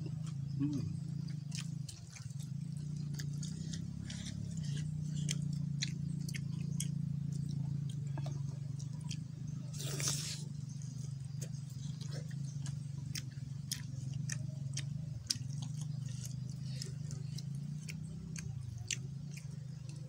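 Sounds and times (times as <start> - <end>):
steady low hum: 0.0 - 20.0
wet mouth clicks and chewing: 0.0 - 20.0.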